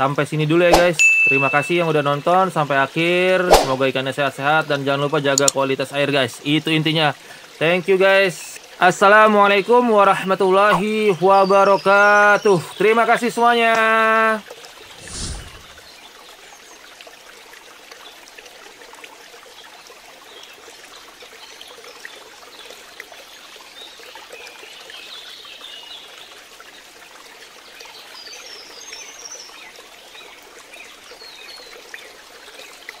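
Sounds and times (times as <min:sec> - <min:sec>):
trickling water: 0:00.0 - 0:33.0.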